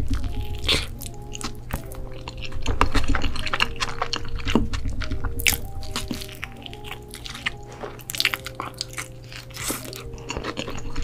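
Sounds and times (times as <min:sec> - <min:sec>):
crunchy bread chewing: 0:00.0 - 0:11.0
soft background music: 0:00.0 - 0:11.0.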